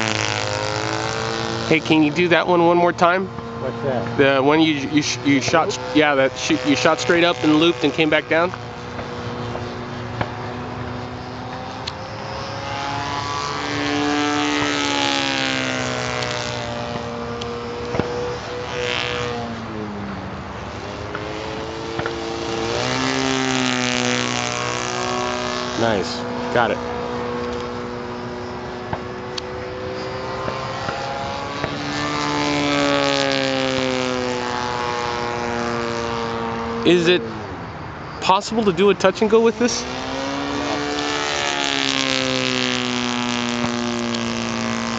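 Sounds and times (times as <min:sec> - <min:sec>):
model airplane engine running: 0:00.0 - 0:44.9.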